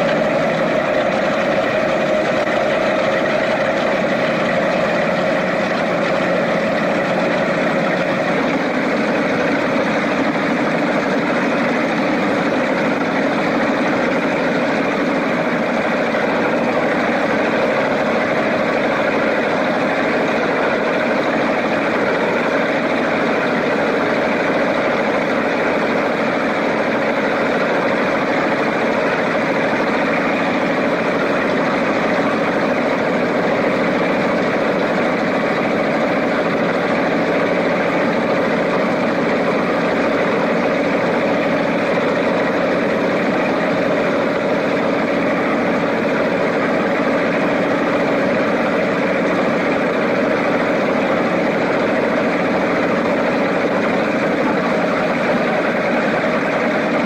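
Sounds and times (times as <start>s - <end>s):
boat engines idling: 0.0s - 57.0s.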